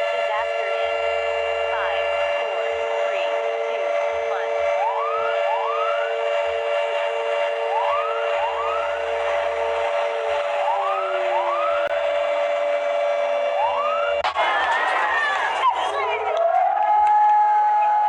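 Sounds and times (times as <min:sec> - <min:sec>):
steady electronic drone: 0:00.0 - 0:18.0.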